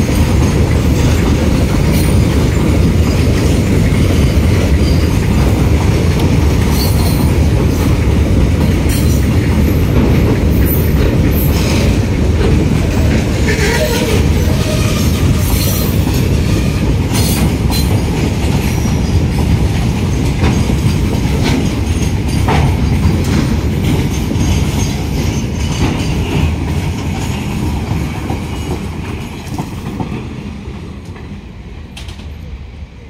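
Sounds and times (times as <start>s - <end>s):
steel wheels clattering over rail joints: 0.0s - 31.4s
train rumbling past: 0.0s - 33.0s.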